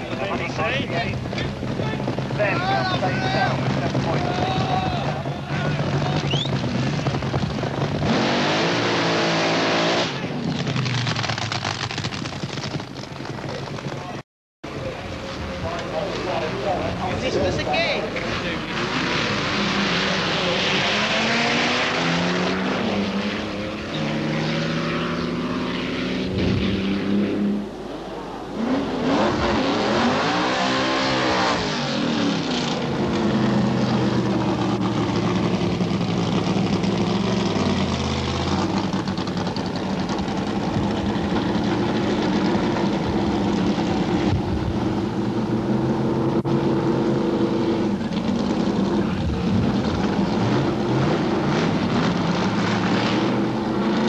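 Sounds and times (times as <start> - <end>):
drag-racing engines revving: 0.0 - 12.3, 14.7 - 54.0.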